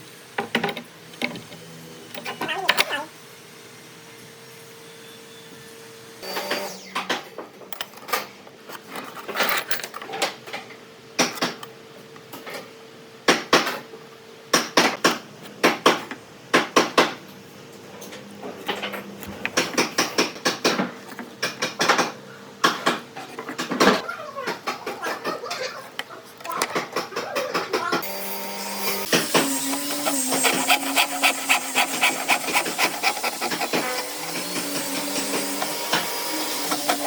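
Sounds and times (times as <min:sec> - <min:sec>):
faint machine hum: 0:00.0 - 0:37.0.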